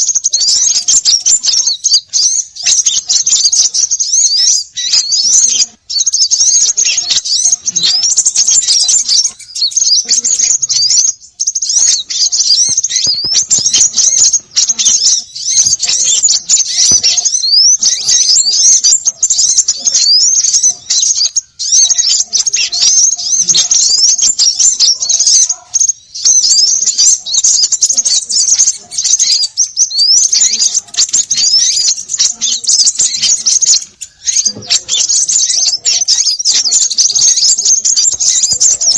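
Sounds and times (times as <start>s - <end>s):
small birds chattering: 0.0s - 38.9s.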